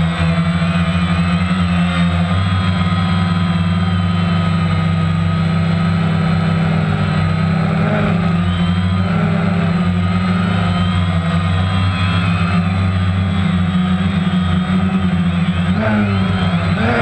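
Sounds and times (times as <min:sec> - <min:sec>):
drone motors and propellers: 0:00.0 - 0:17.0.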